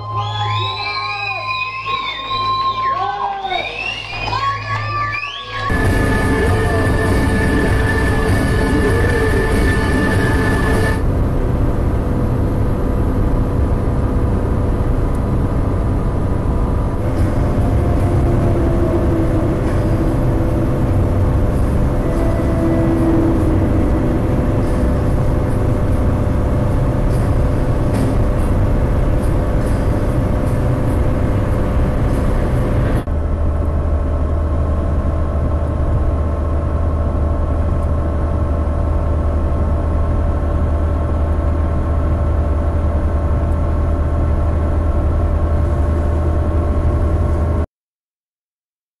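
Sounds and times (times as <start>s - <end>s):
deep steady drone: 3.8s - 47.7s
car engine and road noise: 5.3s - 47.7s.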